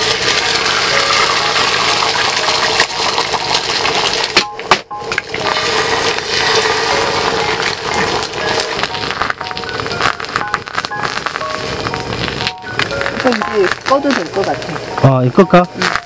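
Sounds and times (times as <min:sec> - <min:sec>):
eggs cracking: 0:00.0 - 0:16.0
eggs sizzling in a hot pan: 0:00.0 - 0:16.0.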